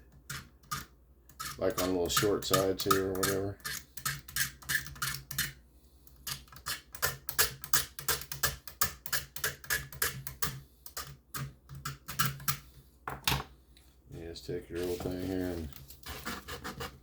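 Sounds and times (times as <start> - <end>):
knife scraping plastic: 0.0 - 12.7, 14.7 - 17.0.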